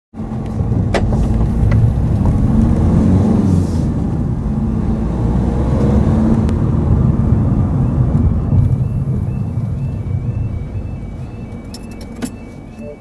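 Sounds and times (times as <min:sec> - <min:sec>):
car engine and tyres rumbling: 0:00.1 - 0:13.0.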